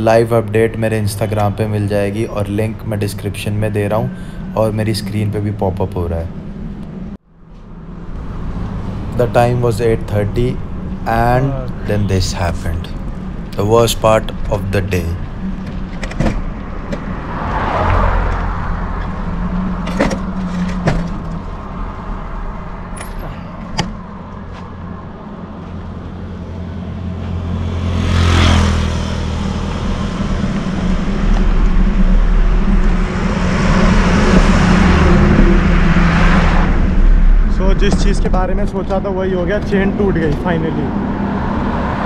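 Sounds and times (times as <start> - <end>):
road traffic passing: 0.0 - 42.0
vehicle passing: 0.0 - 42.0.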